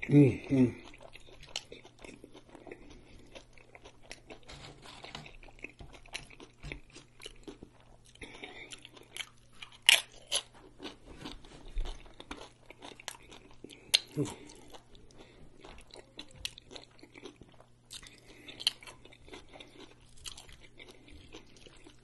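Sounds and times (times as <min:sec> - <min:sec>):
chewing and mouth smacking: 0:00.7 - 0:04.5, 0:05.1 - 0:22.0
tortilla chip crunching: 0:00.8 - 0:22.0.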